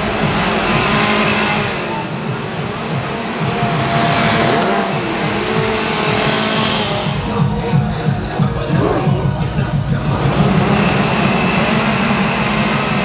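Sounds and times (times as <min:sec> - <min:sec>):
chainsaws revving and idling: 0:00.0 - 0:13.0
loud continuous din: 0:00.0 - 0:13.0.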